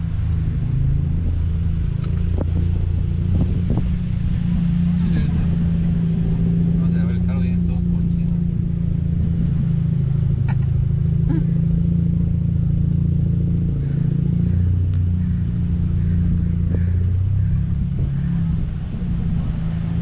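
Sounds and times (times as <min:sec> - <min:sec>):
car engine humming: 0:00.0 - 0:20.0.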